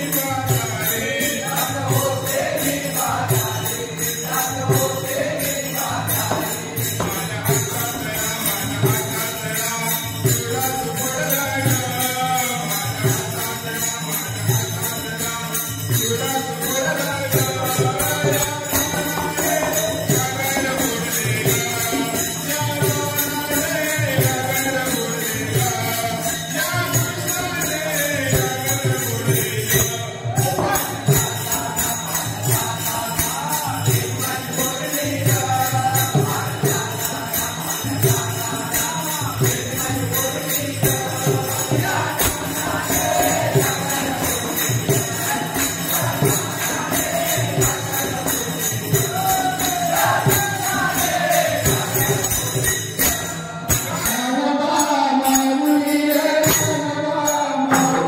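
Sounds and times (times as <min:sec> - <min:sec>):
hand cymbals clashing: 0:00.0 - 0:58.0
voices singing: 0:00.0 - 0:58.0.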